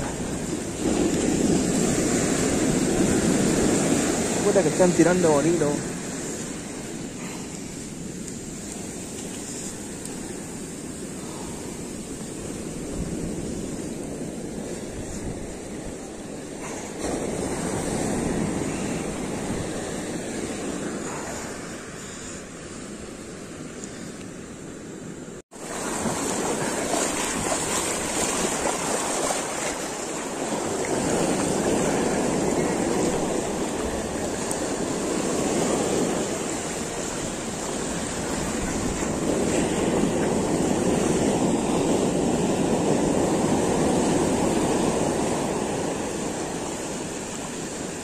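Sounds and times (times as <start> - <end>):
ocean surf breaking: 0.0 - 48.0.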